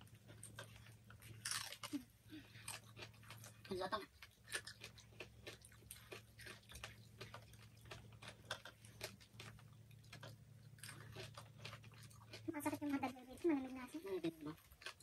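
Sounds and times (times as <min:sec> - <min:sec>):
low steady hum: 0:00.0 - 0:15.0
people chewing: 0:00.0 - 0:15.0.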